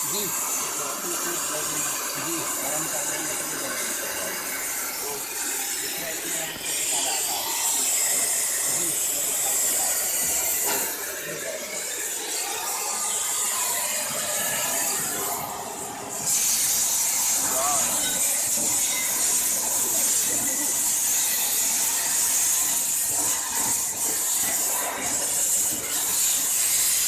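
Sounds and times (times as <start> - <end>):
cutting torch hissing: 0.0 - 27.0.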